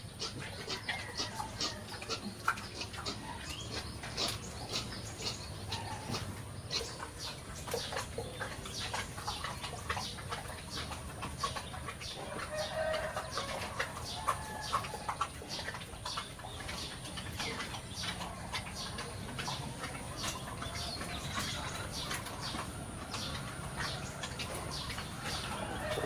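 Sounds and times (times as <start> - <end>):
birds chirping: 0.0 - 26.0
chickens clucking: 0.0 - 26.0.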